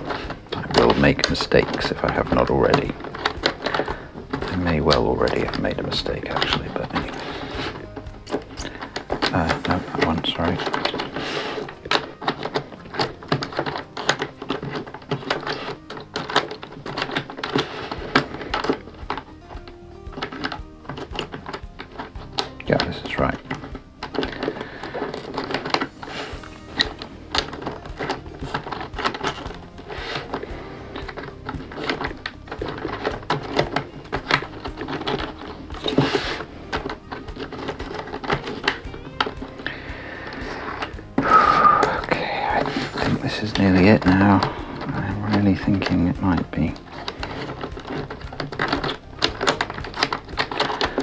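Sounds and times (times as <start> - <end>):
wooden puzzle pieces clicking: 0.0 - 51.0
wooden scrape: 0.0 - 51.0.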